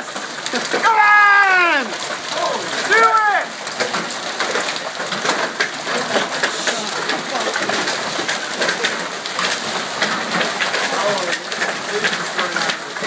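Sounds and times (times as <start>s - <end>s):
hail striking ground and cars: 0.0s - 13.0s
rain hissing: 0.0s - 13.0s.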